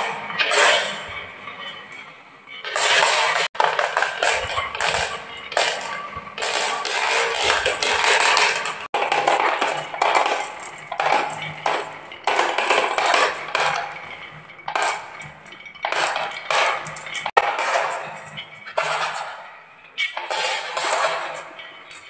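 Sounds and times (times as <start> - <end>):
marbles clattering down wooden tracks: 2.6 - 19.4, 20.0 - 22.0.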